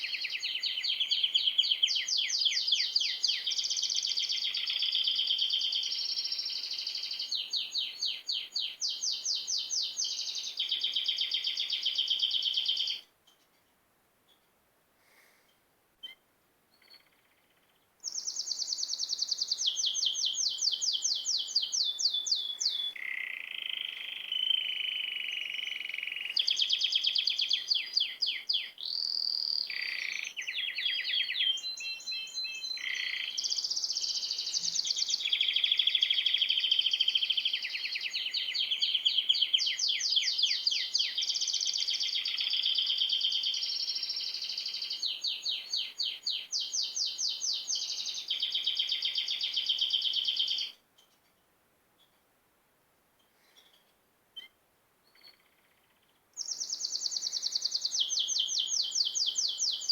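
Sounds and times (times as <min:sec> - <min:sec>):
small birds chirping: 0:00.0 - 0:51.4, 0:53.2 - 0:59.9.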